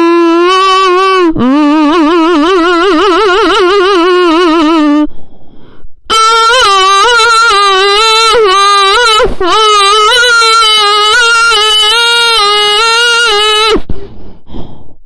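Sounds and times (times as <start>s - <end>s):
person singing long held notes: 0.0s - 5.2s, 6.1s - 13.9s.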